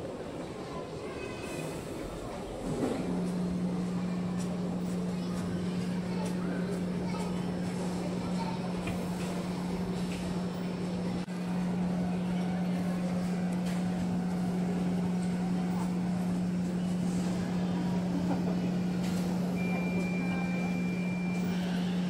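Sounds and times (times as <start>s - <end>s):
distant crowd chatter: 0.0s - 22.0s.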